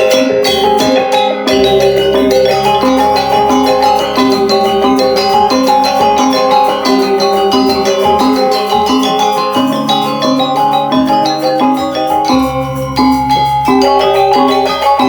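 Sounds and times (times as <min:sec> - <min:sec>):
gamelan metallophones and gongs: 0:00.0 - 0:15.0.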